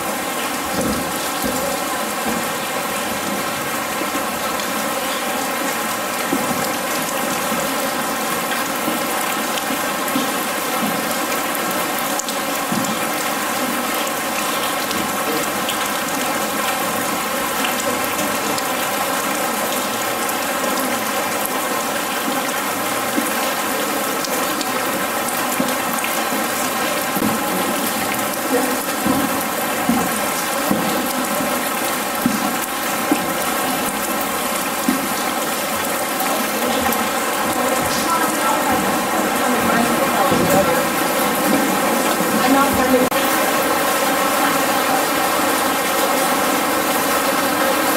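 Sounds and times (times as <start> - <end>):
rain pattering on metal roof: 0.0 - 47.9
water splashing: 0.0 - 47.9.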